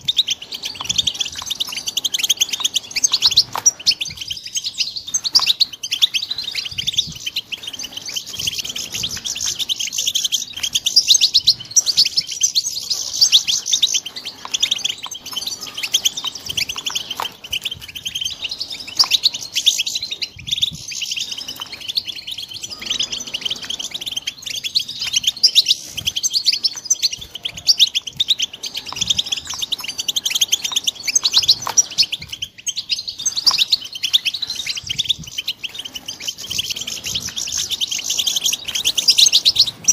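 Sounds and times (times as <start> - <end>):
goldfinches chirping and twittering: 0.0 - 39.9.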